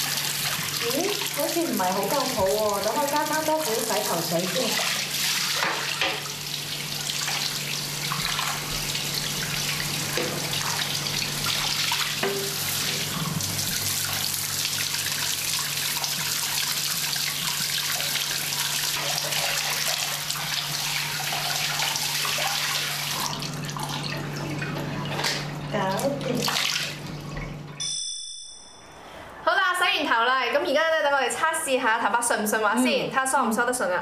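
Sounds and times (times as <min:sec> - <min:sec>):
shower water spraying and splashing: 0:00.0 - 0:27.4.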